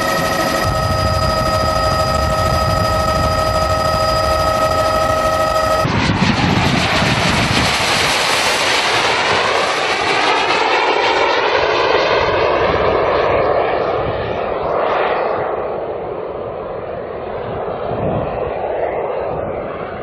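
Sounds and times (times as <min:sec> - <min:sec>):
drone engine flying past: 0:00.0 - 0:20.0.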